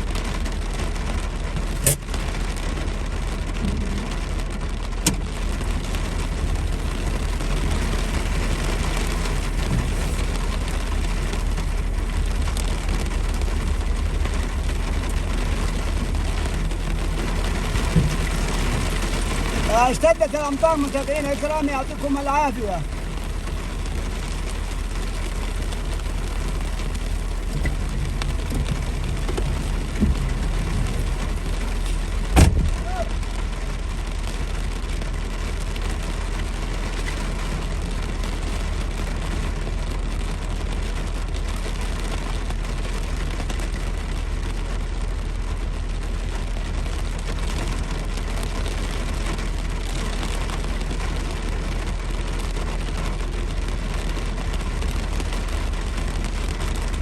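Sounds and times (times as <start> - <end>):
car driving in heavy rain: 0.0 - 57.0.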